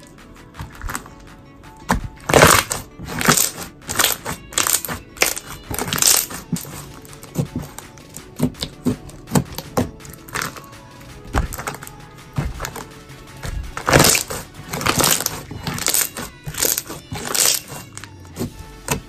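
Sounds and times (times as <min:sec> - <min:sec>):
background music: 0:00.0 - 0:19.0
slime squishing and popping: 0:00.6 - 0:01.2, 0:01.8 - 0:19.0.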